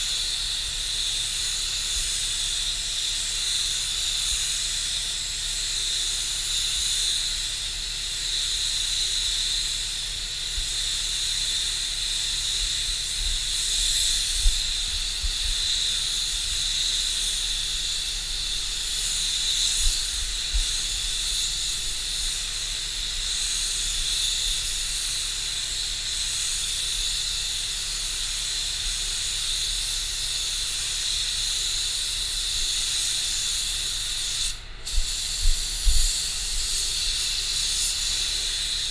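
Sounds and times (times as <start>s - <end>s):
spray gun hissing: 0.0s - 38.9s.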